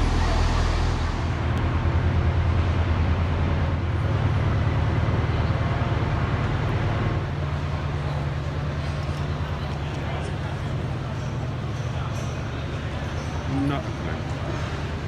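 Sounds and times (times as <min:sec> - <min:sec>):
vehicle rumbling in motion: 0:00.0 - 0:15.0.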